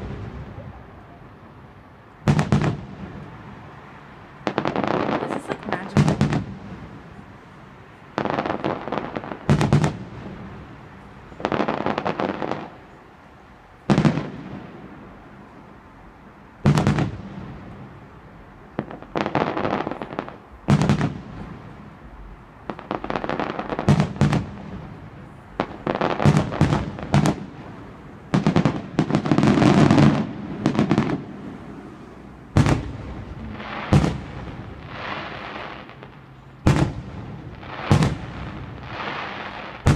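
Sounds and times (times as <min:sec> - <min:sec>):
fireworks bursting with bangs: 0:00.0 - 0:13.0, 0:13.6 - 0:15.8, 0:16.6 - 0:39.9.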